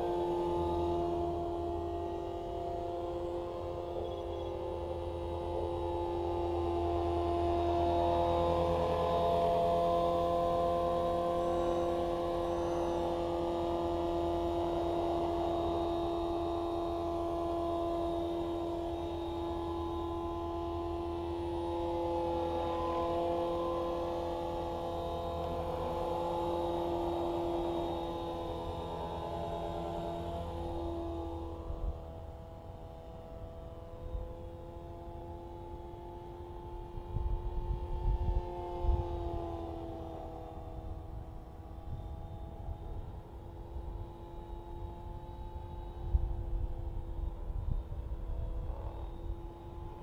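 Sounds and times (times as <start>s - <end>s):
rc helicopter motor whine: 0.0s - 50.0s.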